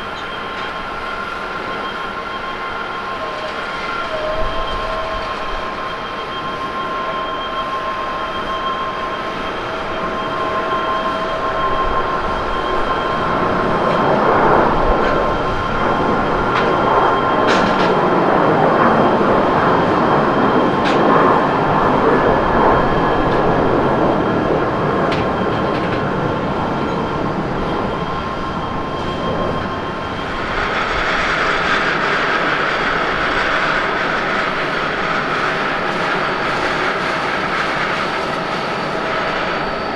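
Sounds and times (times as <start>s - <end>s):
higher jet engine whine: 0.0s - 39.9s
jet engines roaring on takeoff: 0.0s - 39.9s.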